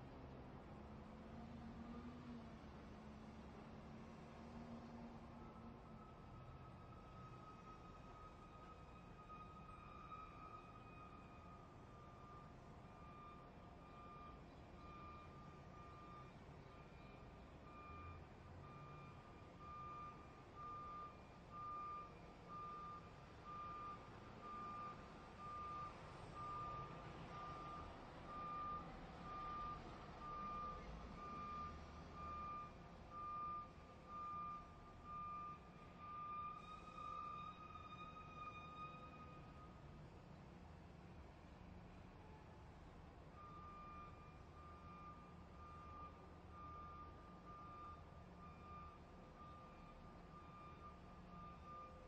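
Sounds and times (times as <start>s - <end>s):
truck reversing alarm beeping: 5.2s - 39.9s, 43.2s - 52.0s.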